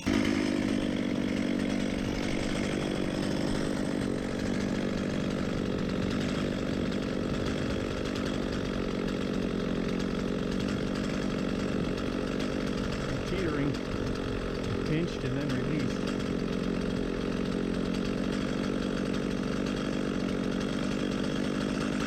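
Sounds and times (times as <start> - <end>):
chainsaw cutting into tree trunk: 0.0 - 22.0.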